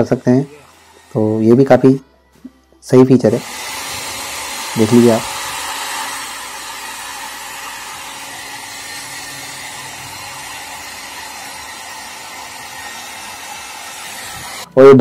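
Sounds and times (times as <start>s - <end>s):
hair dryer running: 0.0s - 2.0s, 3.3s - 14.7s.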